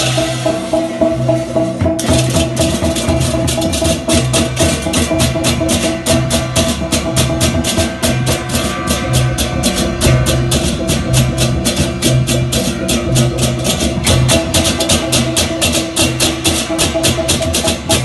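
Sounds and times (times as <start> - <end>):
deep gong and drum strokes: 0.0 - 18.0
hand cymbals clashing rapidly: 0.0 - 18.0
ringing gong tones: 0.0 - 18.0.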